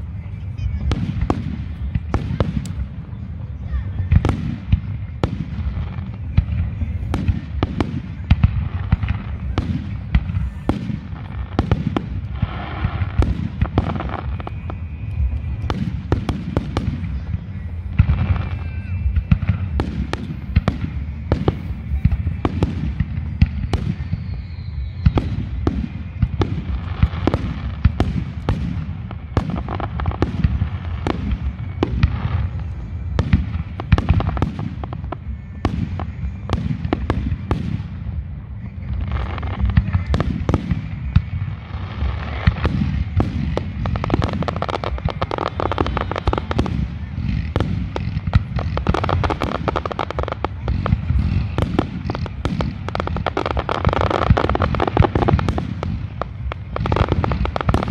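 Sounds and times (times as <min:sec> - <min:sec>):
fireworks bursts and bangs: 0:00.0 - 0:57.9.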